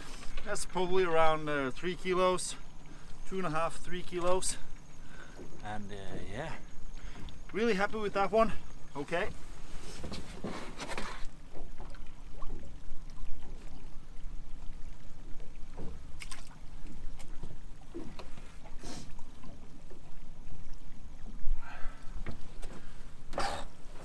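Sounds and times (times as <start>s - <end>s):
water sloshing in a tub: 0.0s - 24.0s.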